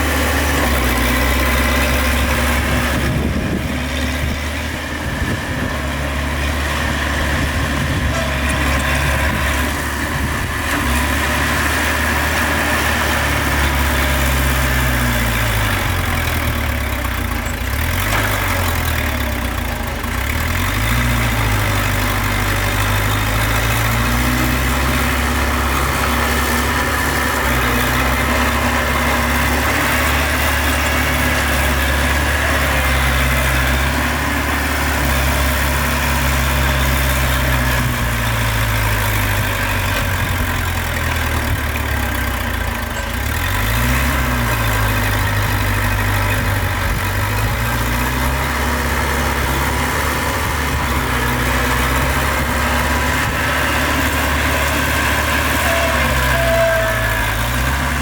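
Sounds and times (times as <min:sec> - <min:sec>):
heavy diesel engines idling: 0:00.0 - 0:58.0.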